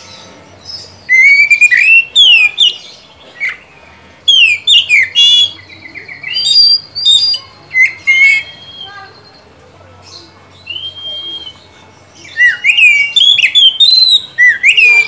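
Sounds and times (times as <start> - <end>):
bird singing whistles and trills: 0.6 - 3.7, 4.3 - 9.5, 10.5 - 15.0.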